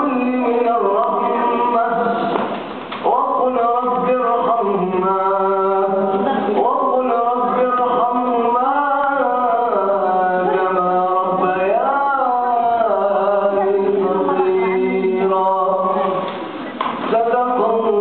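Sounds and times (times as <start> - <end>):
man chanting melodically: 0.0 - 16.3, 17.0 - 18.0.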